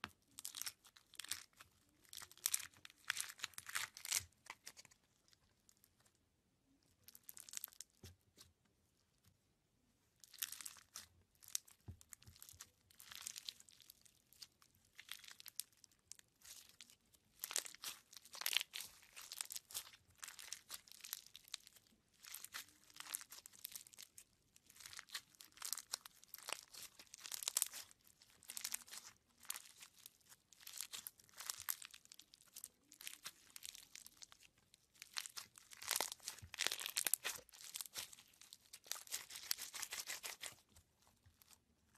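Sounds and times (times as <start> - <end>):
slime with beads crackling and popping: 0.0 - 6.1, 6.7 - 8.5, 10.1 - 41.9.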